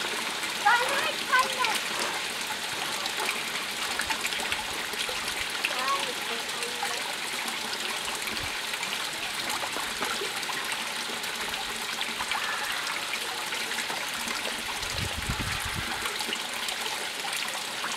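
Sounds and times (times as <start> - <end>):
trickling water: 0.0 - 17.9.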